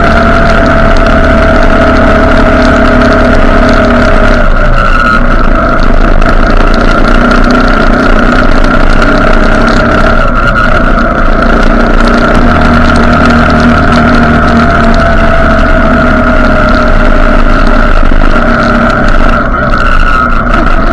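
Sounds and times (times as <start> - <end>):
vehicle engine running: 0.0 - 20.9
wind and road noise: 0.0 - 20.9.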